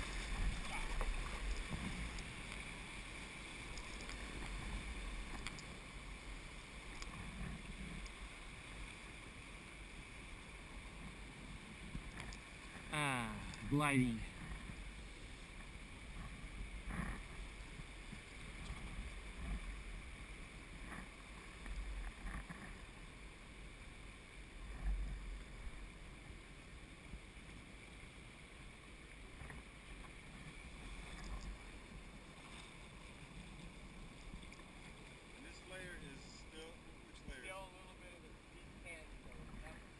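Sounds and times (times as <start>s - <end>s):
river water washing: 0.0s - 39.9s.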